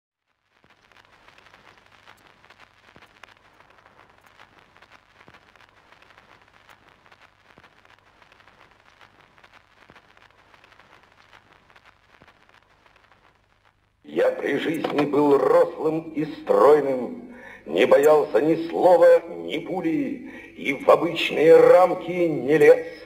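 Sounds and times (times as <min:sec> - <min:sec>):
crackling hiss with clicks: 0:00.2 - 0:23.0.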